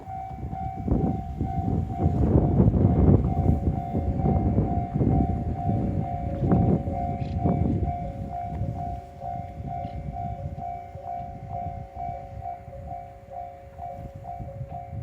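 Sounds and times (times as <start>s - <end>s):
level crossing bell ringing: 0.0s - 15.0s
train rumble: 0.0s - 15.0s.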